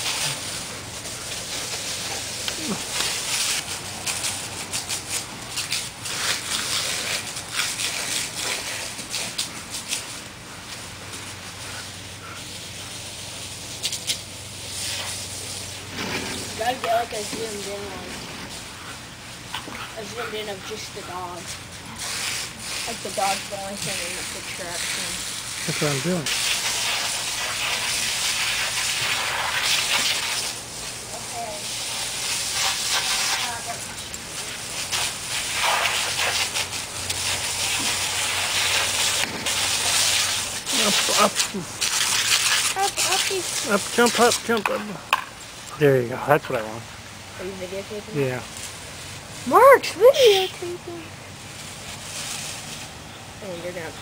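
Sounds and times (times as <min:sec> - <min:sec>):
hose water spray hissing: 0:00.0 - 0:54.0
water pattering on leaves: 0:00.0 - 0:54.0.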